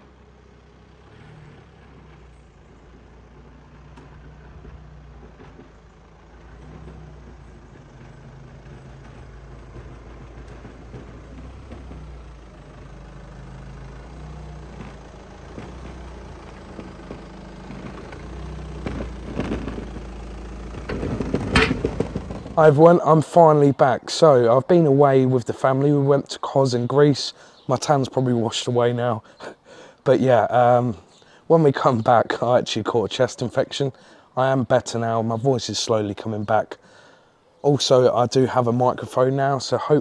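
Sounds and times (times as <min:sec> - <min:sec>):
car engine approaching: 0:00.0 - 0:40.0.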